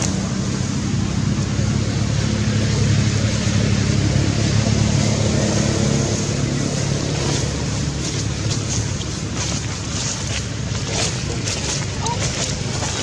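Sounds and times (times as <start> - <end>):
loud rushing noise: 0.0 - 13.0
low drone: 0.0 - 13.0.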